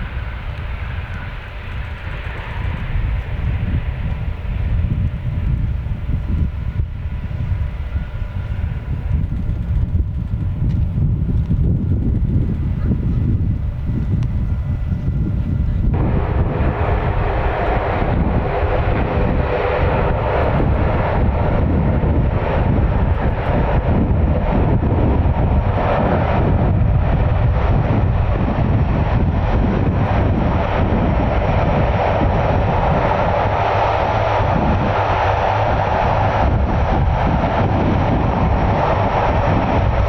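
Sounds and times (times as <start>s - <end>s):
aircraft engines running: 0.0s - 40.0s.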